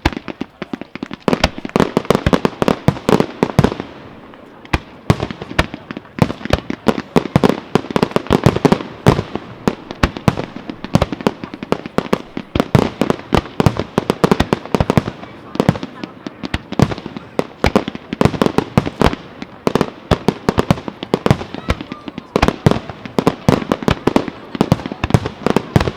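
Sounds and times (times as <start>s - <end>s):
fireworks bangs: 0.0s - 25.9s.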